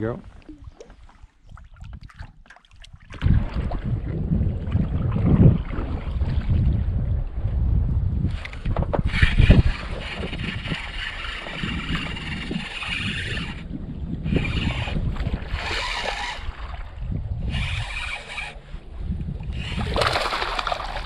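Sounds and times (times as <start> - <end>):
water lapping against canoe: 0.0 - 7.1, 8.4 - 21.0
wind buffeting microphone: 0.0 - 21.0.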